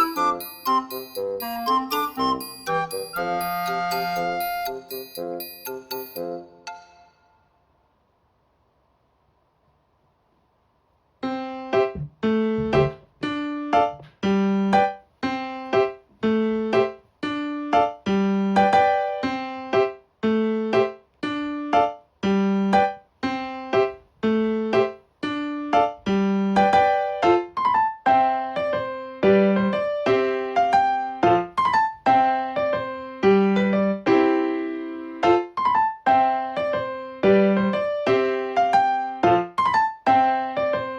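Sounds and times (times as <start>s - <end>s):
keyboard chords music: 0.0s - 7.2s, 11.2s - 40.9s.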